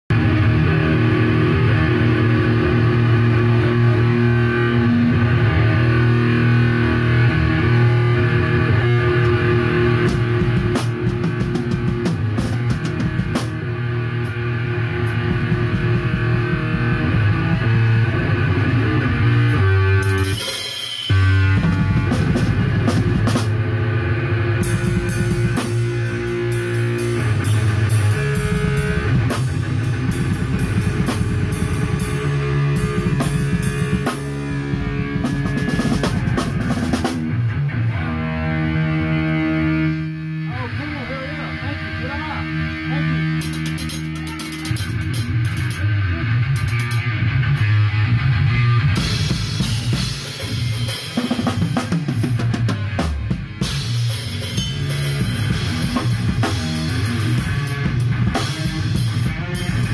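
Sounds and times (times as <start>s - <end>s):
drum kit with cymbals: 0.1s - 37.9s, 39.5s - 59.9s
electric guitar sustained notes: 0.1s - 59.9s.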